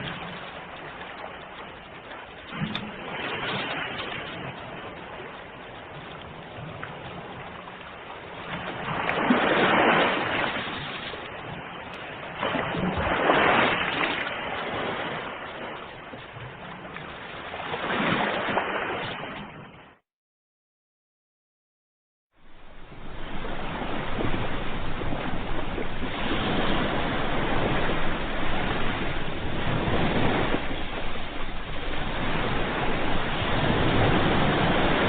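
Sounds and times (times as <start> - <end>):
ocean waves breaking on shore: 0.0 - 20.0, 22.4 - 35.0.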